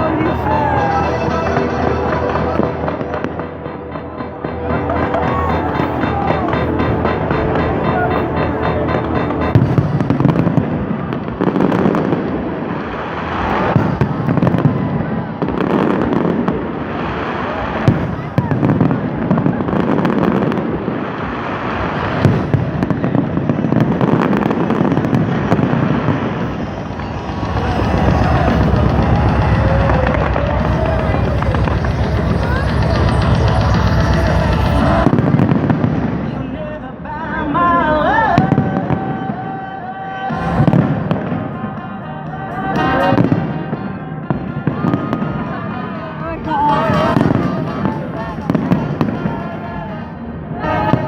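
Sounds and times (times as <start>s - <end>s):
fireworks bursting and crackling: 0.0s - 36.7s, 38.4s - 41.8s, 46.6s - 49.8s
music with sustained melody: 0.0s - 51.0s.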